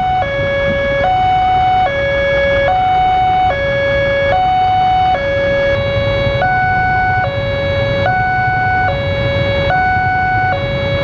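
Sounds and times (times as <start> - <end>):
two-tone hi-lo alarm siren: 0.0 - 11.0.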